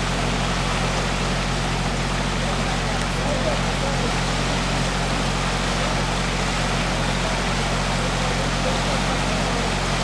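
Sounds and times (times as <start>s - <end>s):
low engine hum: 0.0s - 10.0s
river rushing: 0.0s - 10.0s.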